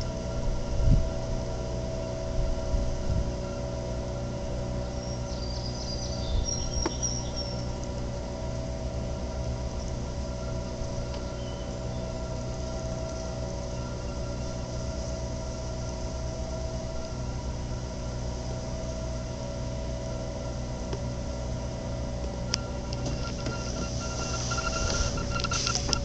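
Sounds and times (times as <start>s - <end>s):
pumping station mechanical hum: 0.0s - 26.0s.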